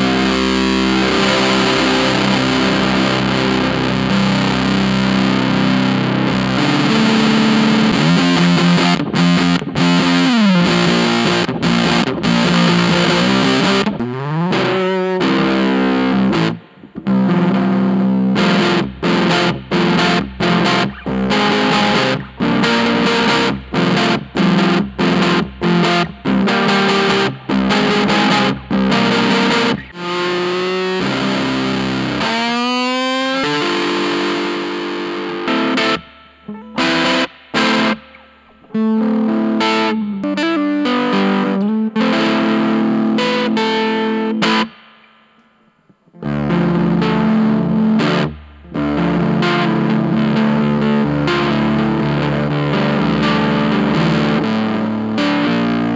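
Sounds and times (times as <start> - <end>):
fuzzed electric guitar chords: 0.0 - 55.9.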